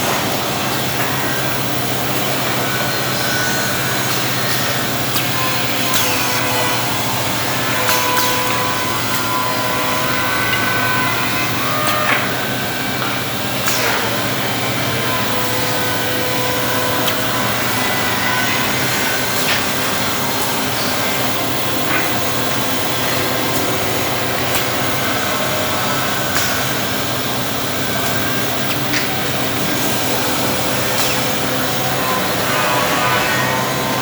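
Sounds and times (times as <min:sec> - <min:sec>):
drilling machine motor hum: 0:00.0 - 0:34.0.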